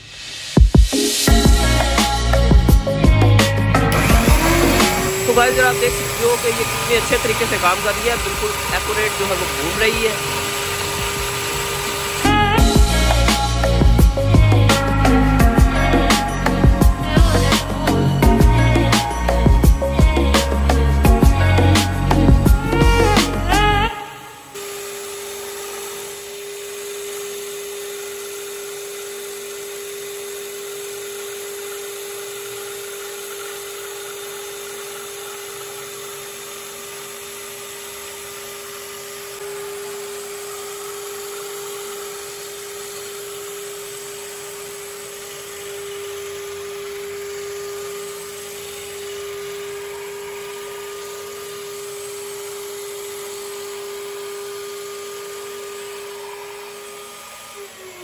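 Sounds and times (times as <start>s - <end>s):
sandpaper rubbing spinning wood: 0.0s - 58.0s
electric drill motor hum: 0.9s - 58.0s.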